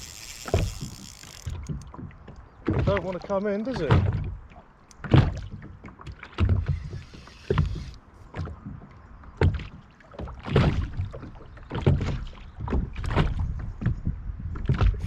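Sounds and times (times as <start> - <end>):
water slapping against boat hull: 0.0 - 15.0.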